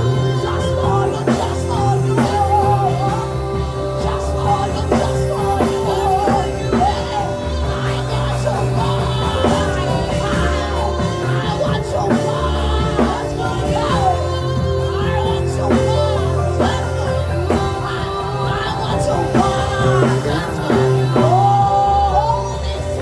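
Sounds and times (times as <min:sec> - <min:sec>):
bass and keyboard chords: 0:00.0 - 0:23.0
voices singing: 0:00.0 - 0:23.0.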